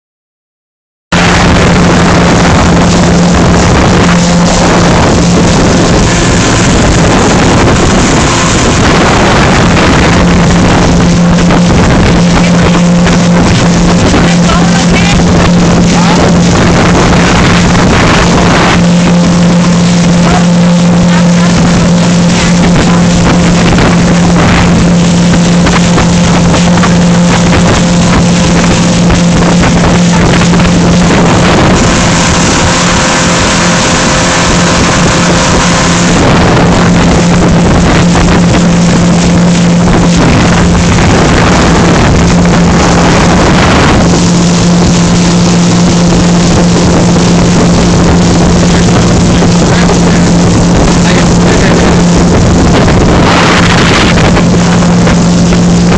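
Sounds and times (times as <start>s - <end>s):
boat engine drone: 1.1s - 55.9s
water noise: 1.1s - 55.9s
wind noise: 1.1s - 55.9s.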